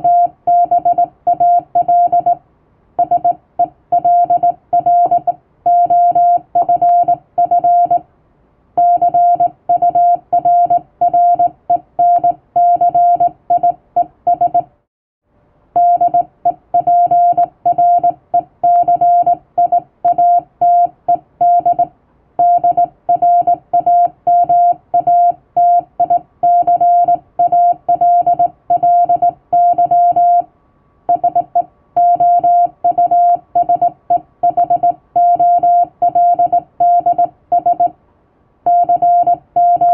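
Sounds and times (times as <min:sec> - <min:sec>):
morse code beeps: 0:00.0 - 0:02.4, 0:03.0 - 0:08.0, 0:08.8 - 0:14.7, 0:15.8 - 0:30.5, 0:31.1 - 0:37.9, 0:38.7 - 0:39.9.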